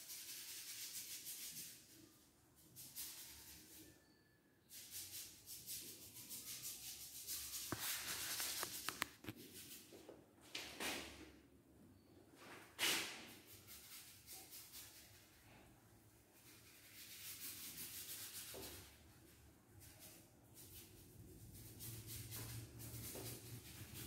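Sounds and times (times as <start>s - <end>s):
paintbrush scrubbing on wall: 0.0s - 4.0s, 4.7s - 10.1s, 12.8s - 15.4s, 16.4s - 24.0s.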